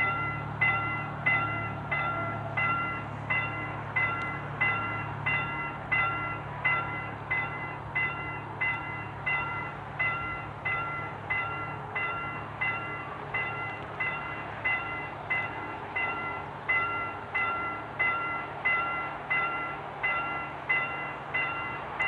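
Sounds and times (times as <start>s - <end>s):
level-crossing warning bell ringing: 0.0s - 22.0s.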